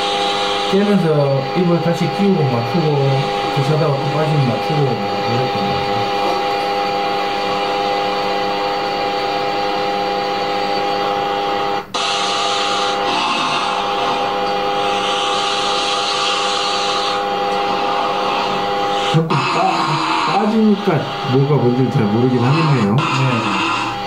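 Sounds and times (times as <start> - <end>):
machine hum with fixed tones: 0.0 - 24.0.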